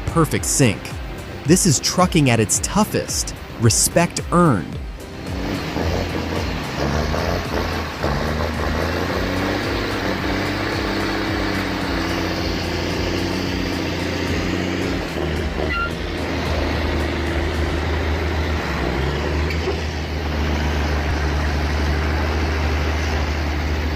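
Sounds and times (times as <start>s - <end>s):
heavy diesel engine droning: 0.0s - 23.9s.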